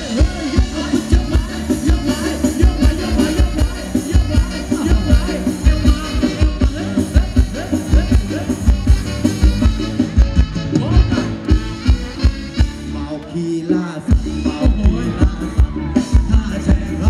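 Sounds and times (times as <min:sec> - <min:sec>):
steady drum beat: 0:00.0 - 0:13.0, 0:13.8 - 0:17.0
upbeat live band music: 0:00.0 - 0:17.0.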